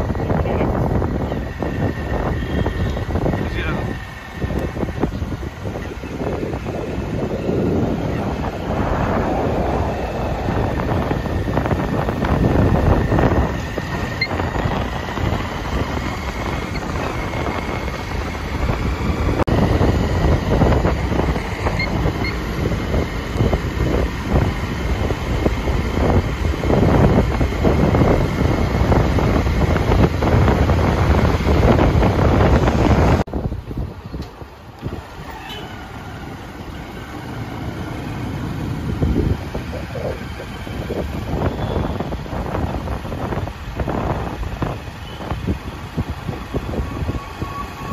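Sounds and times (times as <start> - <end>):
wind buffeting microphone: 0.0 - 35.3, 36.0 - 47.9
vehicle rumble: 0.0 - 47.9.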